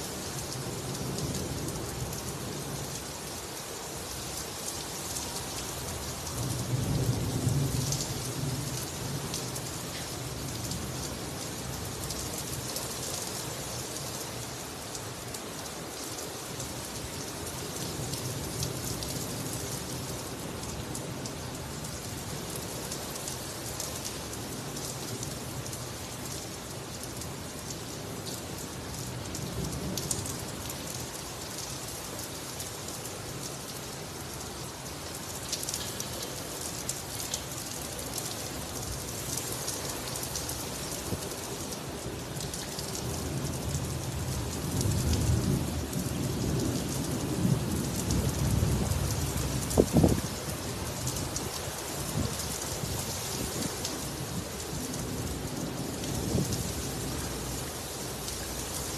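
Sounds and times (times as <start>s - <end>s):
heavy rain on concrete roof: 0.0s - 58.9s.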